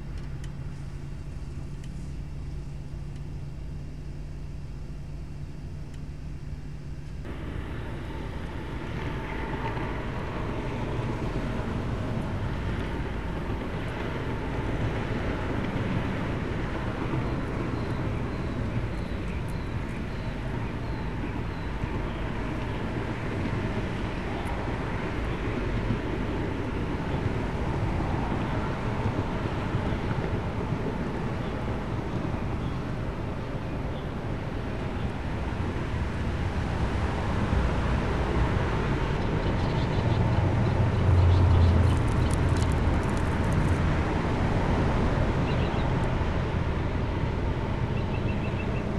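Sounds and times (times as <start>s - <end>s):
low rumble and hiss: 0.0s - 48.9s.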